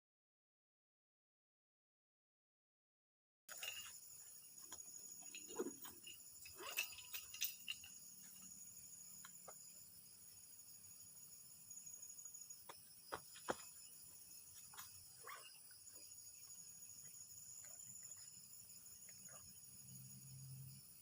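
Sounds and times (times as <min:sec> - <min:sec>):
crickets and insects chirring: 0:03.5 - 0:21.0.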